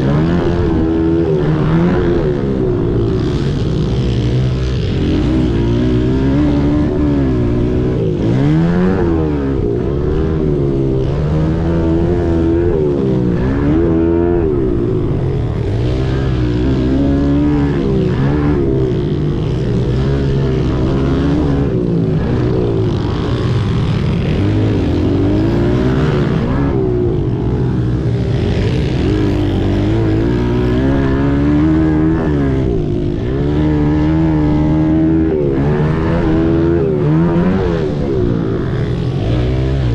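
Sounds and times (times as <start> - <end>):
pit bike engines racing: 0.0 - 39.9.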